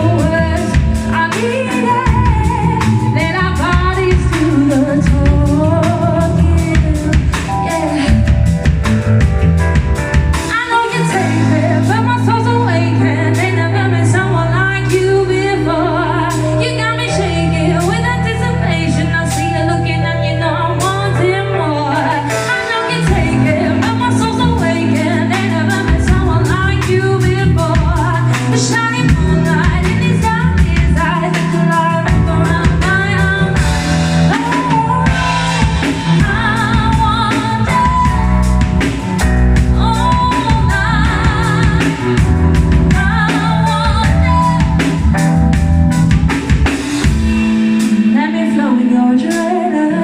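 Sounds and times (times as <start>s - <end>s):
low bass line: 0.0s - 47.9s
drum kit: 0.0s - 50.0s
woman singing lead: 0.0s - 50.0s.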